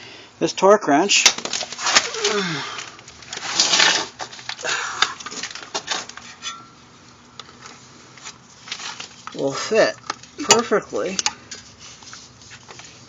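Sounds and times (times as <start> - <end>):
rustling and scraping: 1.4 - 6.8, 7.4 - 13.0.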